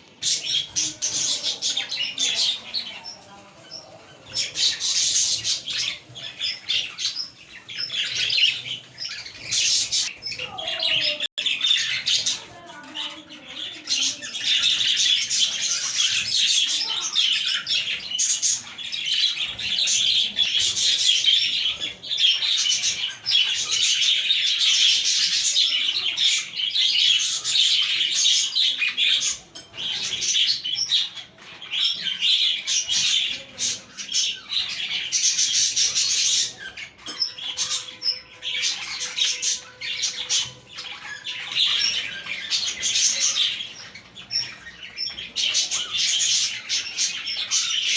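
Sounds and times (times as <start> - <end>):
budgerigars chattering and chirping: 0.0 - 47.9.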